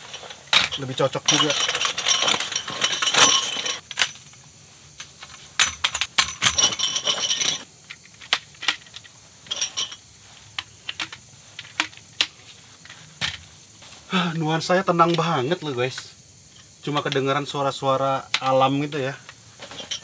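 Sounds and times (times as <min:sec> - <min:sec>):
metal poles clinking and clattering: 0:00.0 - 0:04.4, 0:05.0 - 0:14.1, 0:14.9 - 0:20.0.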